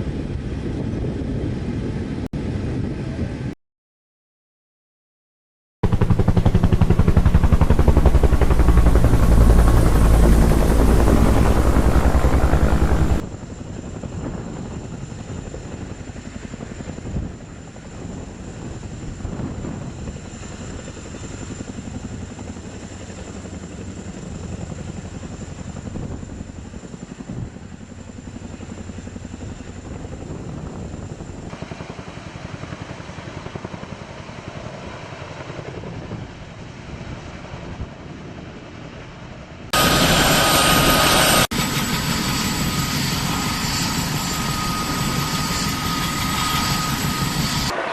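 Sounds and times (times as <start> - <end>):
helicopter rotors chopping: 5.8 - 36.3, 39.8 - 47.9.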